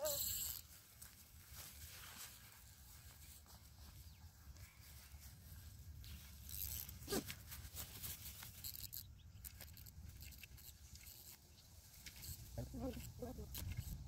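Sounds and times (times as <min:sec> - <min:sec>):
faint clicks and rustles: 0:00.0 - 0:14.0.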